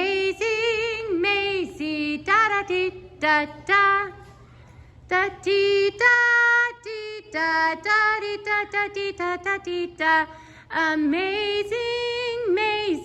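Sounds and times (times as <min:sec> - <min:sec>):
woman singing wordless melody: 0:00.0 - 0:04.3, 0:05.1 - 0:13.0.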